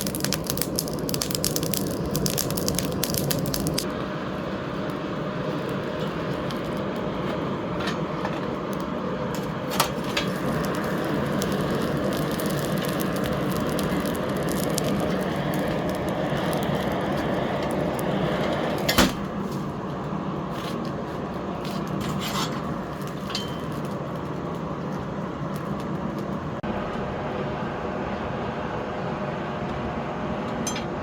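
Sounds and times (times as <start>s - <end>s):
forge roaring and crackling: 0.0s - 30.8s.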